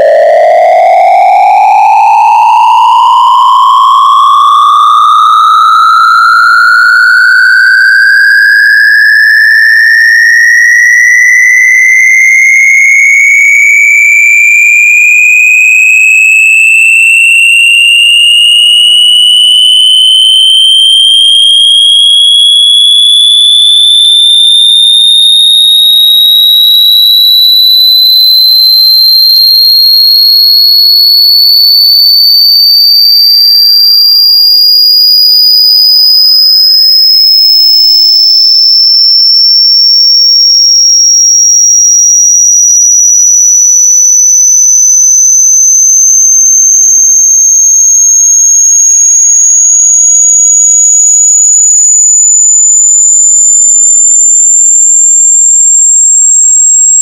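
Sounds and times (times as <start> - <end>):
rising electronic test tone: 0.0 - 57.0.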